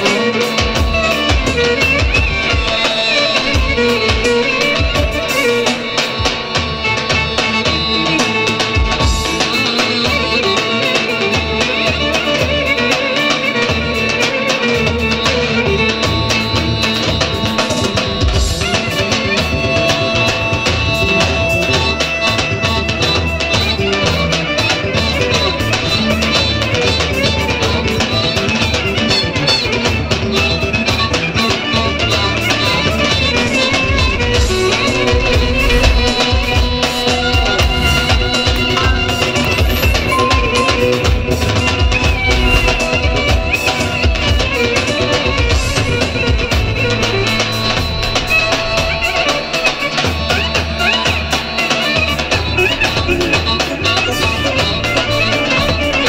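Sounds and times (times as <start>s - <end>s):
dance music with drumbeat: 0.0s - 19.8s, 20.7s - 56.0s.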